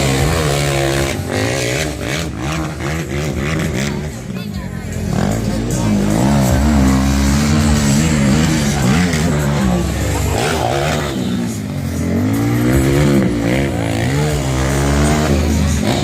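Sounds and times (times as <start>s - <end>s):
quad engines revving: 0.0s - 16.0s.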